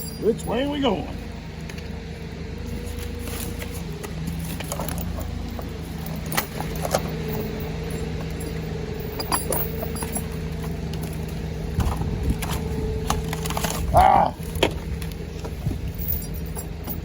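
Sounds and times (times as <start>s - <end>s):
chain clinking and rattling: 0.0s - 1.9s, 2.6s - 17.0s
engine running steadily: 0.0s - 17.0s.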